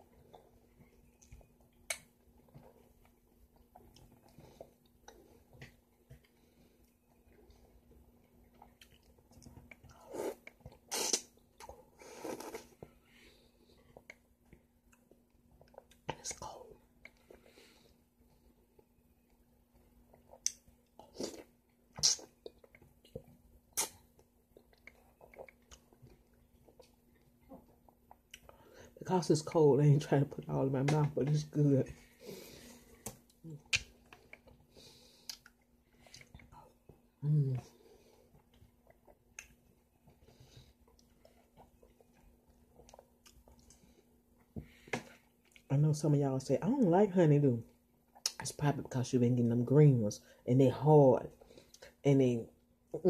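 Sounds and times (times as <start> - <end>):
person chewing with wet smacks: 0.0 - 28.8, 32.8 - 45.7, 47.7 - 48.6
faint steady hum: 0.0 - 53.0.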